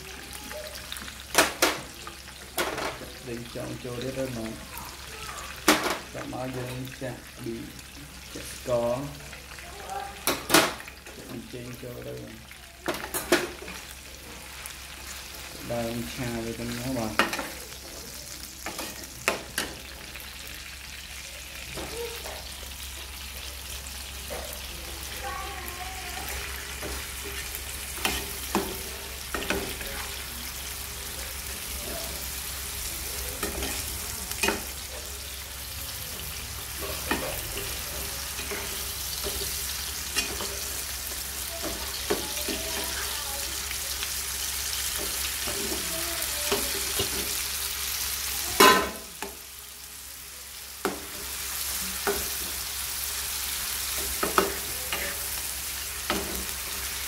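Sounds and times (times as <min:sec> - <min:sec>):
stir-fry sizzling in a wok: 0:00.0 - 0:57.0.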